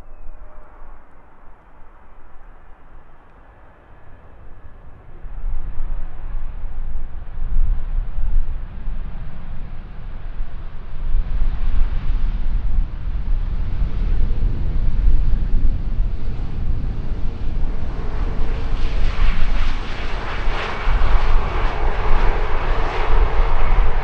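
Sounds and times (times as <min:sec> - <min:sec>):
jet engine noise: 0:00.0 - 0:24.0
wind buffeting microphone: 0:00.0 - 0:24.0.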